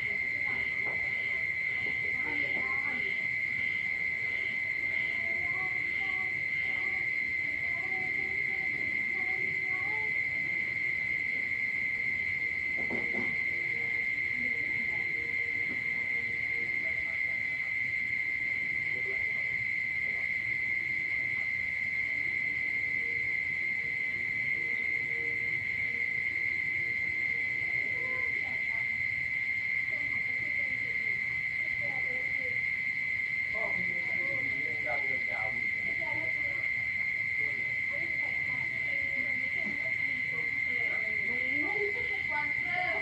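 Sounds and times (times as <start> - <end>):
high-pitched trill of frogs and insects: 0.0 - 43.0.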